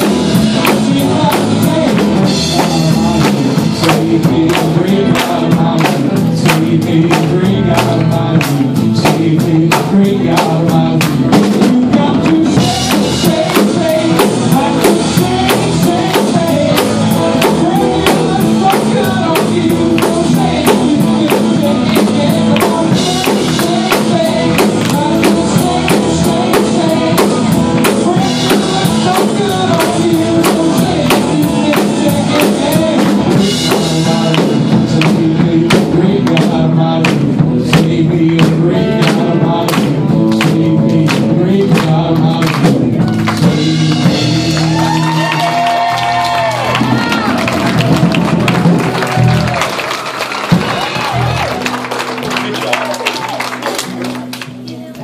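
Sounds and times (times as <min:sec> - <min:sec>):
man singing lead: 0:00.0 - 0:49.6
drum kit beat: 0:00.0 - 0:55.0
guitars: 0:00.0 - 0:55.0.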